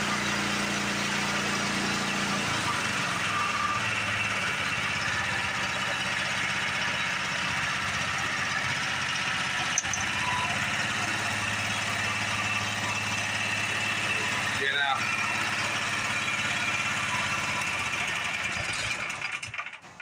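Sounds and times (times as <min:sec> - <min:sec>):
small gas engine idling: 0:00.0 - 0:20.0.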